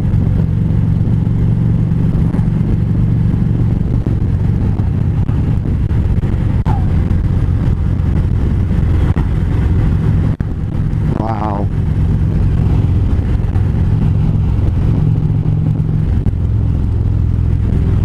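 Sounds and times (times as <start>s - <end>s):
motorcycle engine cruising: 0.0s - 18.0s
road and wind rush: 0.0s - 18.0s.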